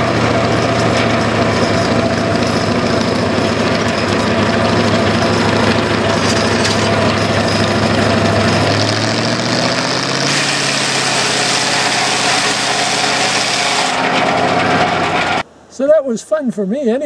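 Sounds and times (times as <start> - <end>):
sawmill engine running: 0.0 - 15.4.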